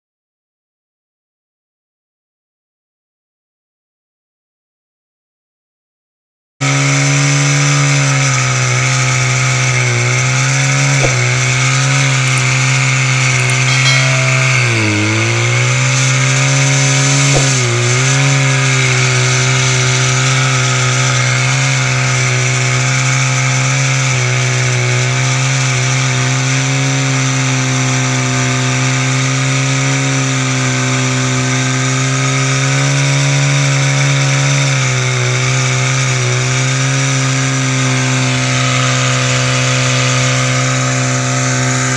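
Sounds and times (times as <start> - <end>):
small petrol engine running: 6.6 - 41.9.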